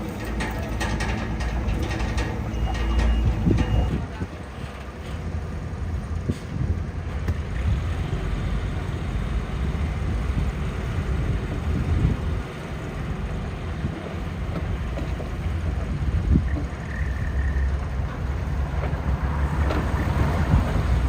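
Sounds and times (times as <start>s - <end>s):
heavy diesel machinery rumbling: 0.0s - 21.0s.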